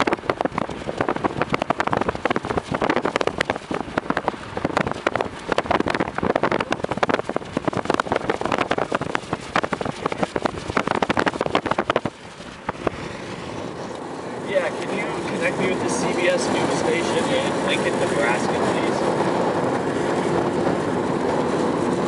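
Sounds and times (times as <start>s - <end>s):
vehicle rattling and buffeting: 0.0s - 22.0s.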